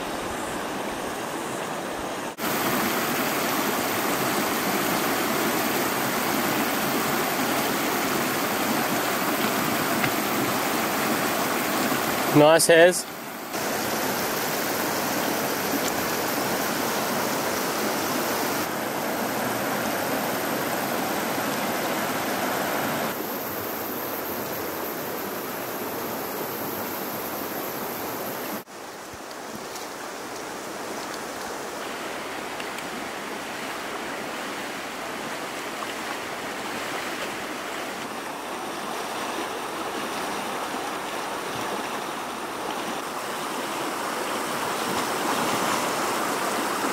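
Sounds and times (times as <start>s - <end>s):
stream running over stones: 0.0s - 46.9s.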